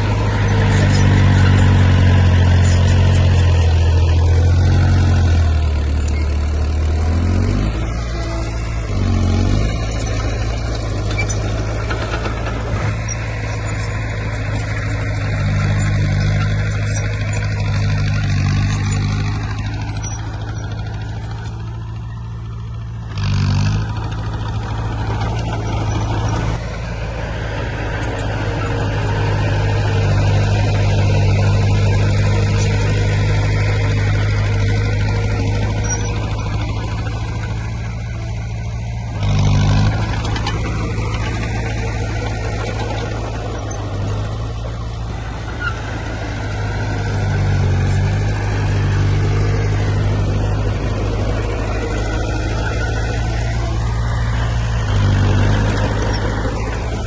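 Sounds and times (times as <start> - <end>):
heavy diesel machinery engine drone: 0.0 - 57.0.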